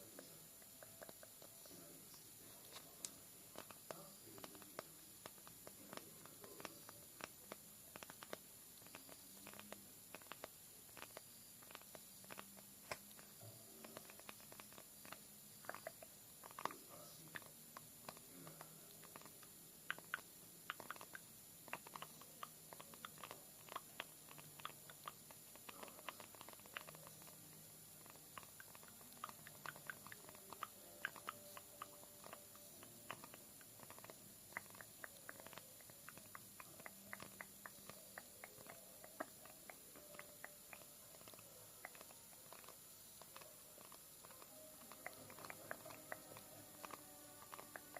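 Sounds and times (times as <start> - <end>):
soft tapping: 2.6 - 47.9.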